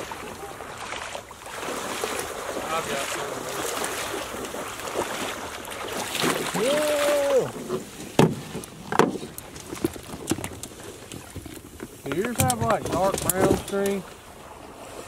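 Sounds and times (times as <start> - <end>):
water splashing from wading: 0.0 - 15.0.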